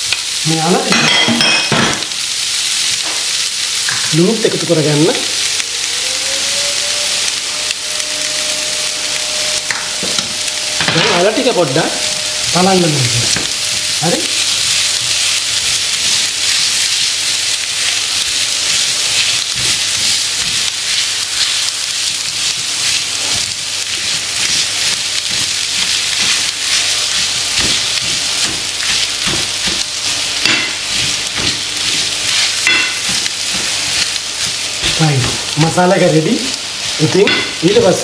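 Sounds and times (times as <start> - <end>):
potatoes sizzling in oil: 0.0 - 38.0.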